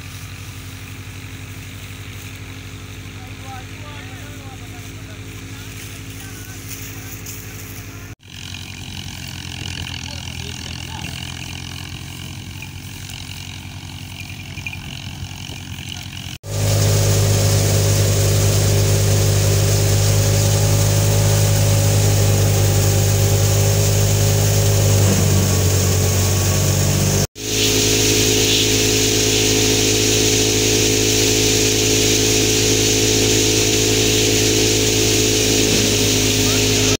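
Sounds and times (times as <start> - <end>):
threshing machine droning: 0.0 - 37.0.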